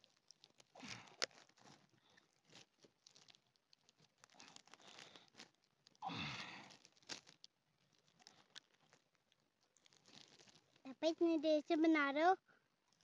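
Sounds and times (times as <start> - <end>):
plastic film crinkling: 0.0 - 11.9.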